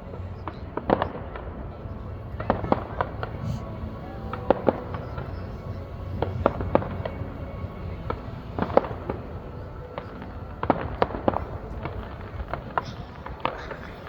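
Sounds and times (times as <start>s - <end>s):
low rumble: 0.0s - 14.0s
fireworks bangs and pops: 0.1s - 14.0s.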